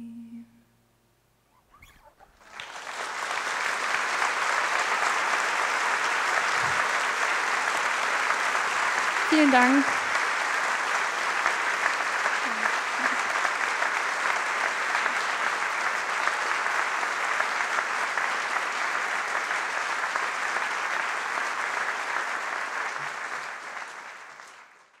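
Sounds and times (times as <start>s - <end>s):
large audience applauding: 2.0s - 25.0s.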